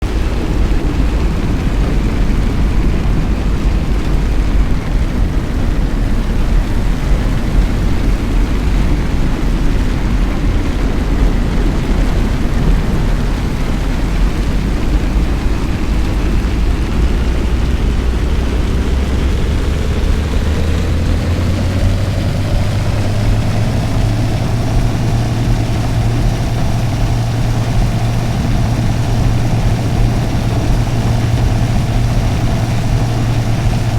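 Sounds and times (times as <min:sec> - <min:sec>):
car engine rumble: 0:00.0 - 0:33.9
road noise: 0:00.0 - 0:33.9.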